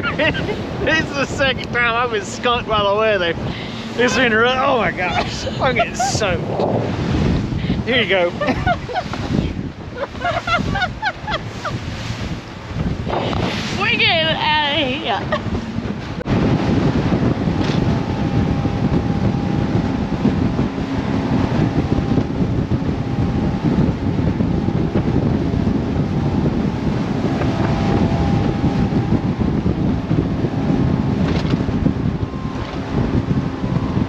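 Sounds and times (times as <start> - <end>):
faint motorboat engine: 0.0 - 34.0
wind buffeting microphone: 0.0 - 34.0.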